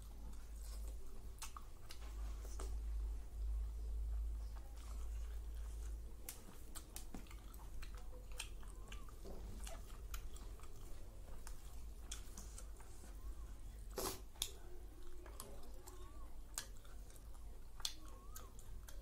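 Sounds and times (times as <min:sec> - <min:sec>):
person chewing wetly: 0:00.0 - 0:03.0, 0:03.9 - 0:19.0
steady low hum: 0:00.0 - 0:19.0.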